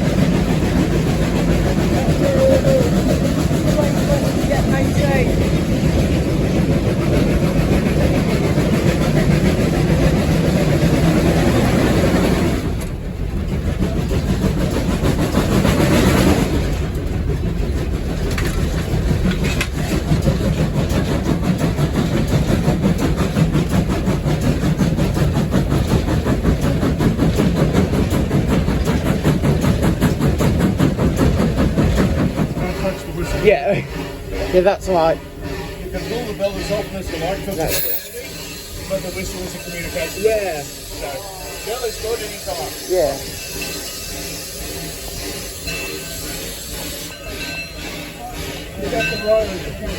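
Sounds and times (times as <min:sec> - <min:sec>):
steam locomotive running: 0:00.0 - 0:49.9.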